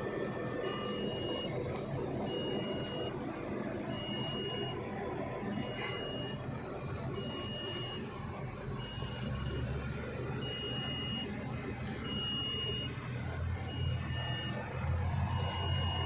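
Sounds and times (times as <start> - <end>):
back-up alarm beeping: 0.0 - 16.0
heavy machine engine running: 0.0 - 16.0.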